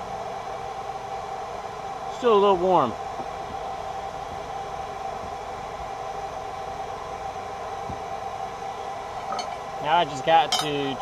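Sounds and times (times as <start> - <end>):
constant hum: 0.0 - 11.0
forge rushing hiss: 0.0 - 11.0.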